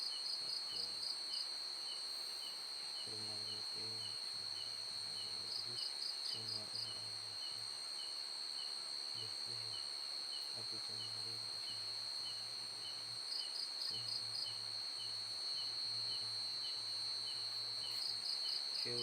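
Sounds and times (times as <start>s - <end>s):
crickets trilling: 0.0s - 19.0s
fast insect pulses: 0.0s - 19.0s.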